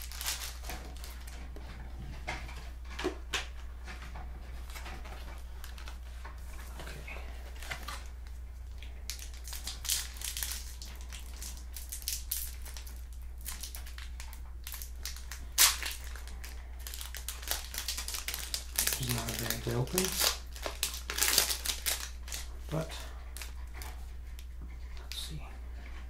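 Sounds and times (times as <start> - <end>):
foil wrapper crinkling: 0.0 - 1.4, 4.6 - 25.2
steady low hum: 0.0 - 26.0.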